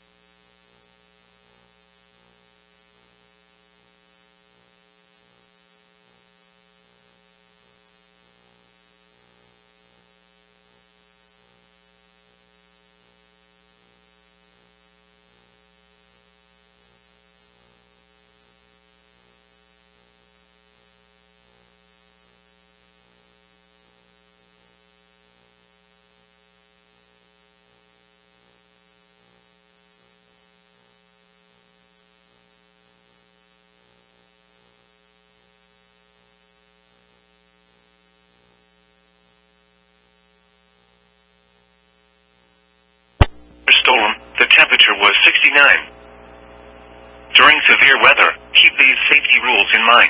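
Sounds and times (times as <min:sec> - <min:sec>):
faint electrical hum and buzz: 0:00.0 - 0:50.0.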